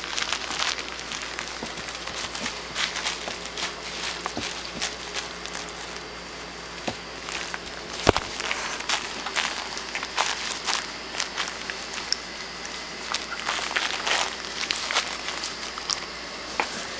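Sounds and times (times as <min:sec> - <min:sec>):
dog scuffling with toy: 0:00.0 - 0:06.1, 0:07.0 - 0:16.9.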